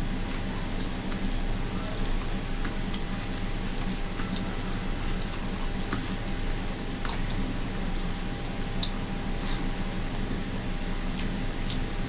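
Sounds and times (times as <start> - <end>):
low room hum: 0.0 - 12.0
wet squishes of mixing food by hand: 0.0 - 12.0.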